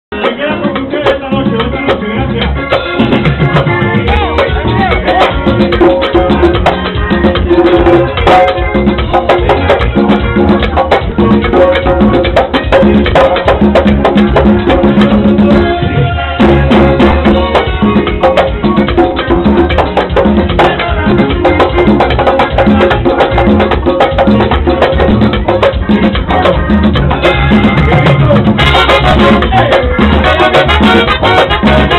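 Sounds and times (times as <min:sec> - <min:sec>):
congas played by hand: 0:00.1 - 0:31.9.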